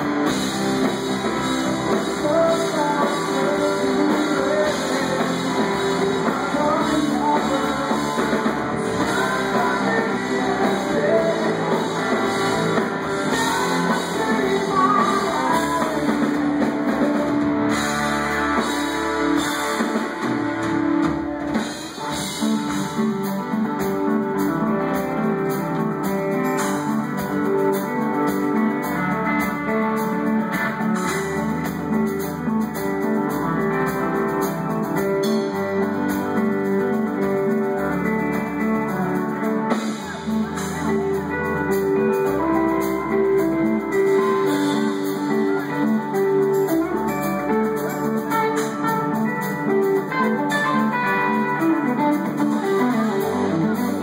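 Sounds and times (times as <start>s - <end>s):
electric guitar: 0.0s - 54.0s
live rock band playing: 0.0s - 54.0s.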